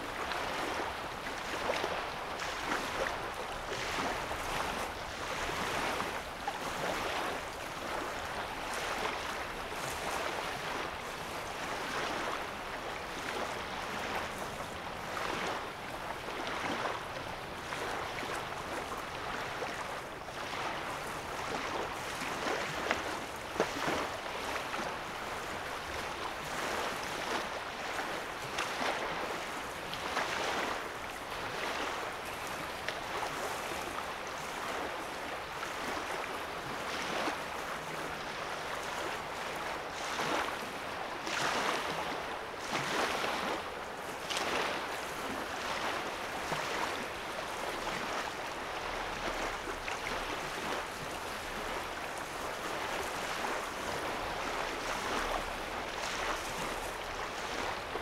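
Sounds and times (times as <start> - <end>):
small waves lapping: 0.0 - 58.0.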